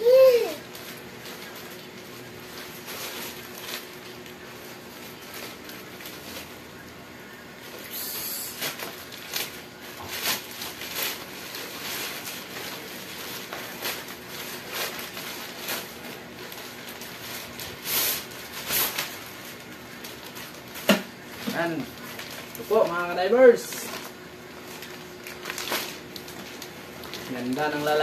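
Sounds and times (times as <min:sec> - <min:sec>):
plastic ripping: 0:00.0 - 0:06.6, 0:07.6 - 0:28.0
plastic pouch crackling and rustling: 0:00.0 - 0:06.8, 0:07.6 - 0:28.0.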